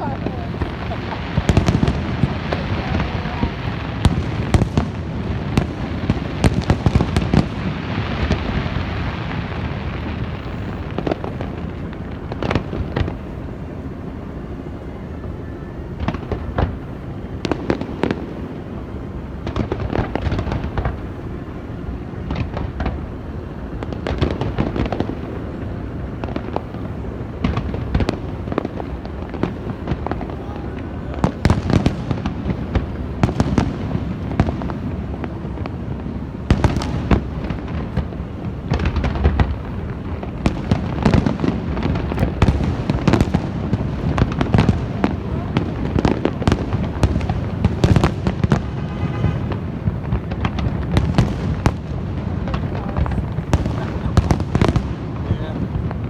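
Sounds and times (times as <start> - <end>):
continuous rumble: 0.0 - 56.0
fireworks bangs and crackles: 0.0 - 56.0.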